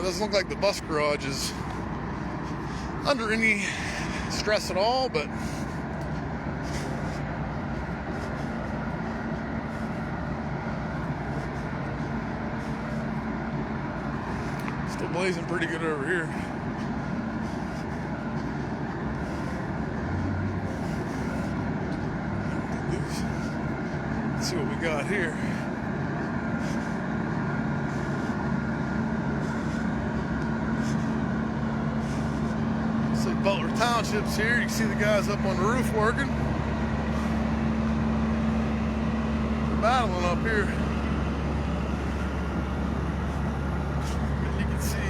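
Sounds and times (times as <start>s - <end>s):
large engine droning: 0.0s - 45.0s.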